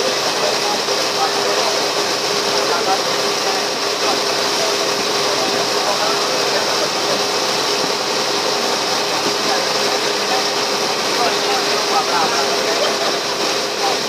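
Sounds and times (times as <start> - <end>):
ferry engine hum: 0.0 - 14.0
indistinct voices: 0.0 - 14.0
wind and water rushing: 0.0 - 14.0.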